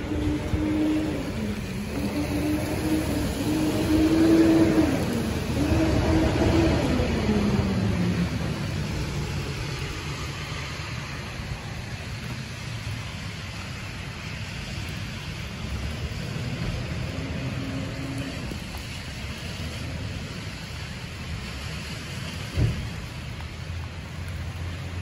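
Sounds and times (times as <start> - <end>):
rain hiss: 0.0 - 25.0
street traffic rumble: 0.0 - 25.0.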